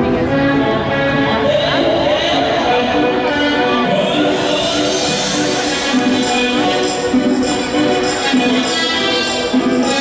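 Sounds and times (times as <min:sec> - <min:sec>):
latin ballroom dance music: 0:00.0 - 0:10.0.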